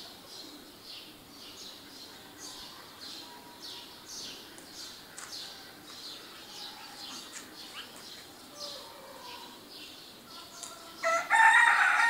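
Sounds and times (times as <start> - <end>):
background bird chorus: 0.0 - 12.0
small bird chirping: 0.3 - 11.0.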